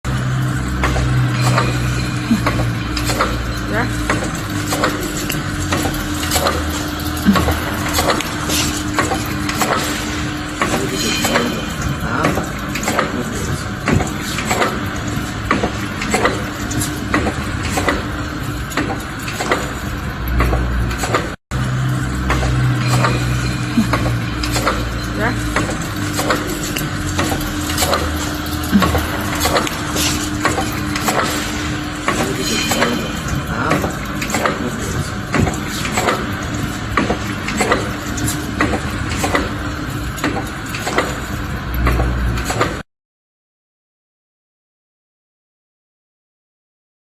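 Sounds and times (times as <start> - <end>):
electric motor hum: 0.1 - 40.7
machine clacking: 0.1 - 42.8.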